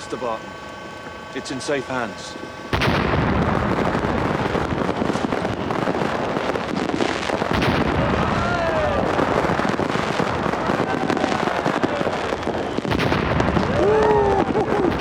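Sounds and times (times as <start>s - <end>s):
fireworks crackling and popping: 0.0s - 15.0s
fireworks whistles falling in pitch: 0.0s - 15.0s.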